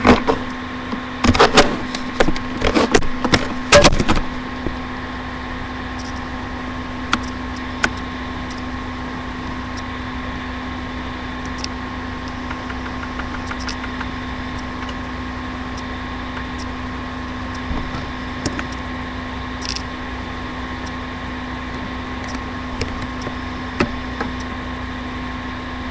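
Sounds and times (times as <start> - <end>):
electrical hum and hiss: 0.0 - 25.9.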